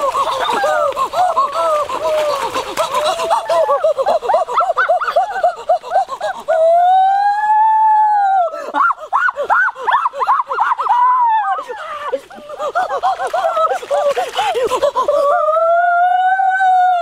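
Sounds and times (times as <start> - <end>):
high-pitched laughing: 0.0 - 7.2, 8.7 - 15.7.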